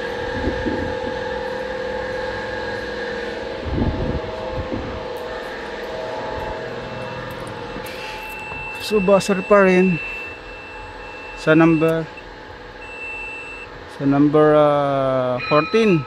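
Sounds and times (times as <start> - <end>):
multimeter continuity buzzer tone: 0.0 - 16.0.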